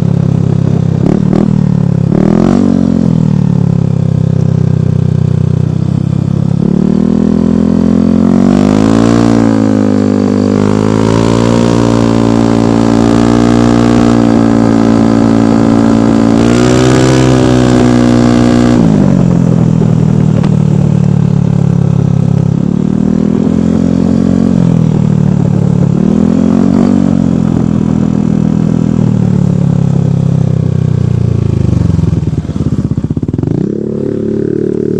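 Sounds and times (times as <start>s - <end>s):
scooter engine revving: 0.0s - 34.9s.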